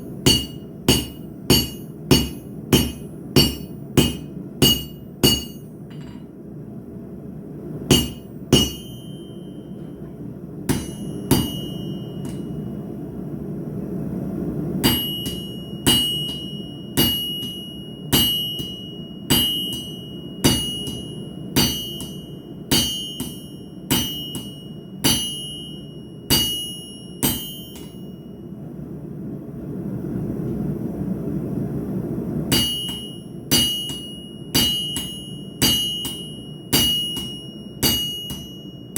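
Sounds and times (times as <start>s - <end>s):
hammer striking steel on anvil: 0.0s - 6.4s, 7.8s - 12.8s, 14.8s - 28.4s, 32.5s - 38.9s.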